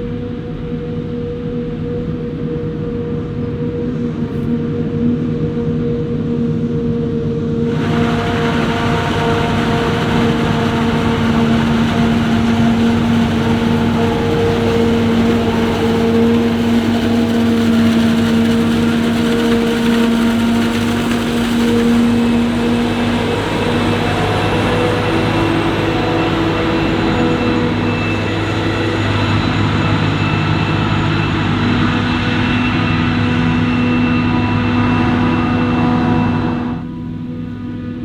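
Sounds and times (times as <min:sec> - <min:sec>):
forage harvester machine drone: 0:06.8 - 0:38.0.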